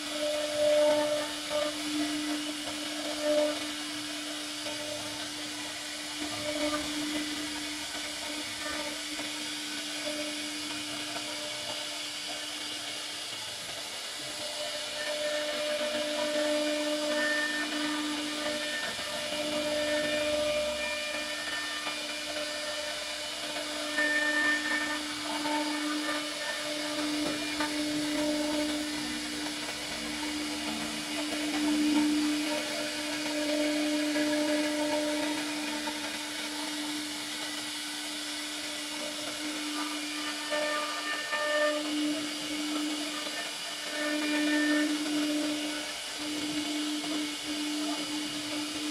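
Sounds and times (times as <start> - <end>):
hiss of cutting wood: 0.0 - 48.9
router spindle whine: 0.0 - 48.9.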